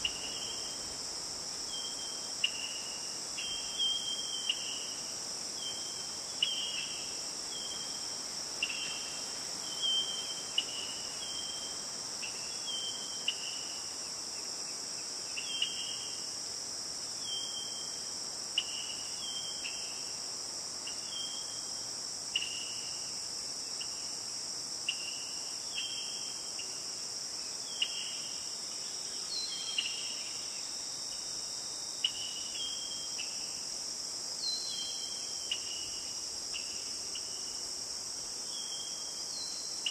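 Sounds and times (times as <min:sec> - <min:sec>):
crickets chorus: 0:00.0 - 0:39.9.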